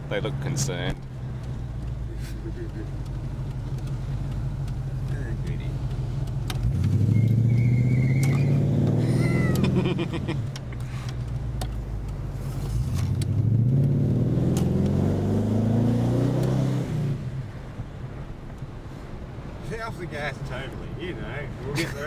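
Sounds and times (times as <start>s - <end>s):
car engine accelerating hard: 0.0s - 18.2s.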